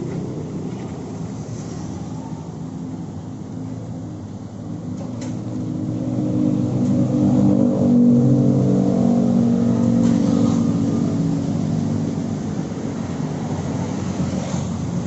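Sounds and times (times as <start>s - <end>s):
car engine growling through exhaust: 0.0s - 15.0s.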